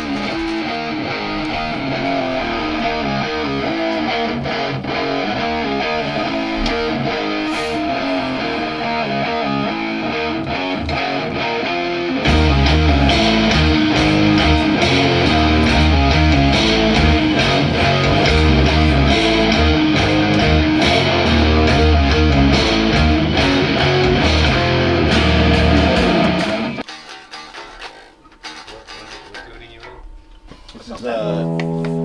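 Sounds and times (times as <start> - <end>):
heavy rock band jamming: 0.0 - 27.7
electric guitar riff: 0.0 - 29.4, 31.0 - 32.0.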